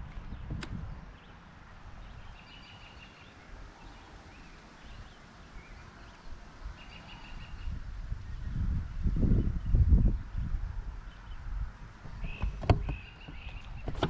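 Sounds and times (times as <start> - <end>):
faint outdoor rumble: 0.0 - 14.0.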